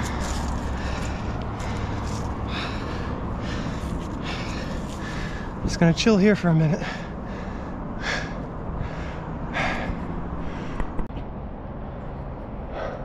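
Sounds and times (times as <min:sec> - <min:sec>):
man breathing hard: 0:00.0 - 0:05.7, 0:06.7 - 0:11.1, 0:12.6 - 0:13.0.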